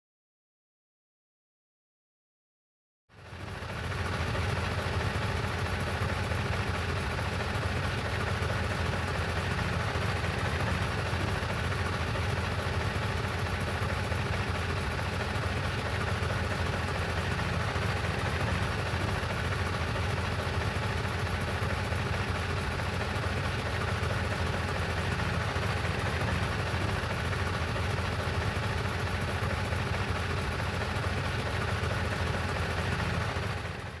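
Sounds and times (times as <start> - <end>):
truck engine idling: 3.2 - 34.0.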